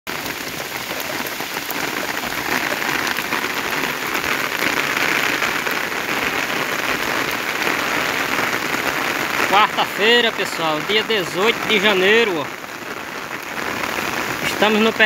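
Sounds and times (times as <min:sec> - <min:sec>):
heavy rain on ground and foliage: 0:00.1 - 0:15.0.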